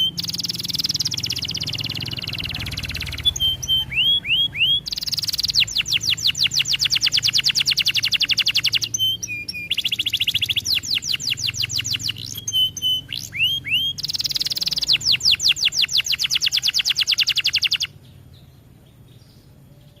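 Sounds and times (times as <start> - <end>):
canary trilling song: 0.0 - 20.0.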